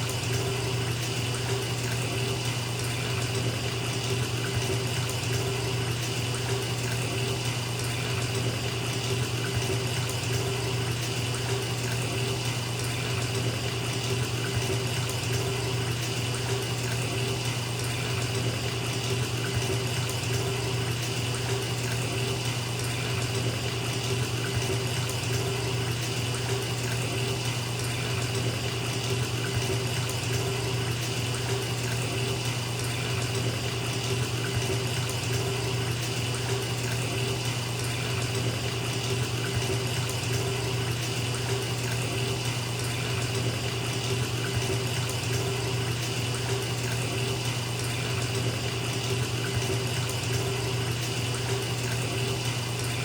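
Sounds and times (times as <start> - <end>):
water pouring into bathtub: 0.0 - 53.0.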